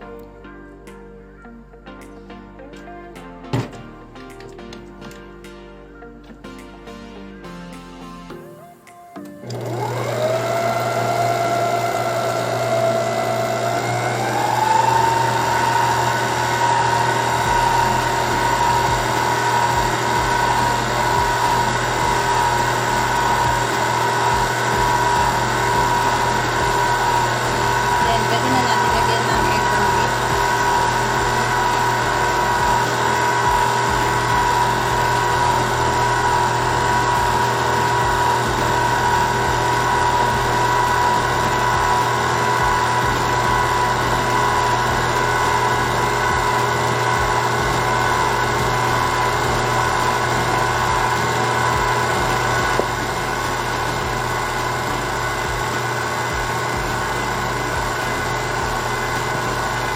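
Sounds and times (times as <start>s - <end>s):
stand mixer motor whine: 9.4s - 59.9s.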